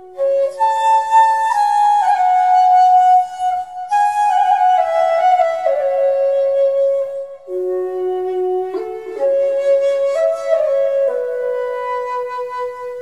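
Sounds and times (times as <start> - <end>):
flute playing slow melody: 0.0 - 13.0.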